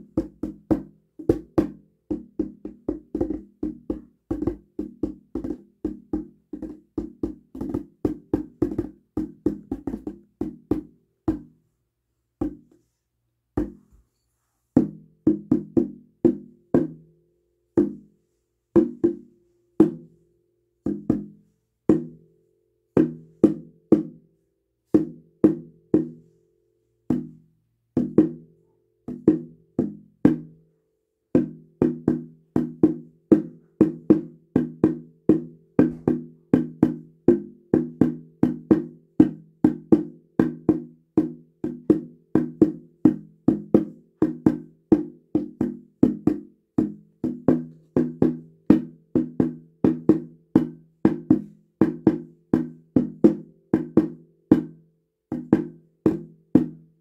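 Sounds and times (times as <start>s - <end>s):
hand drum beaten with stick: 0.0s - 11.6s, 12.4s - 12.8s, 13.6s - 13.8s, 14.8s - 17.1s, 17.8s - 18.1s, 18.8s - 20.2s, 20.8s - 22.3s, 23.0s - 24.3s, 25.0s - 26.2s, 27.1s - 27.4s, 28.0s - 28.5s, 29.1s - 30.6s, 31.4s - 57.0s.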